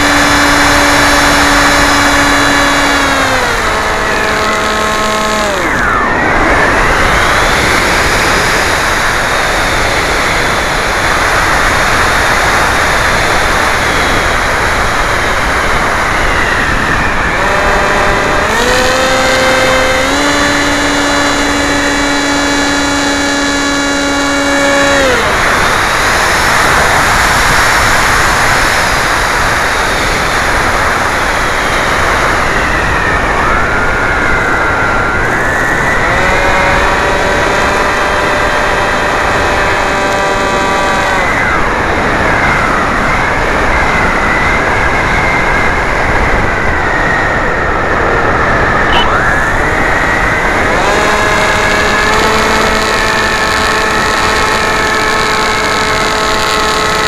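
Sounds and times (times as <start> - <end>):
electric motor and propeller whining: 0.0 - 57.0
wind rushing over microphone: 0.0 - 57.0.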